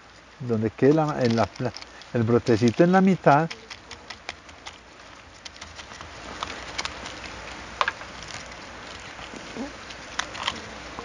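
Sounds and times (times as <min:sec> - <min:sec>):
rustle of potting mix: 0:00.0 - 0:11.0.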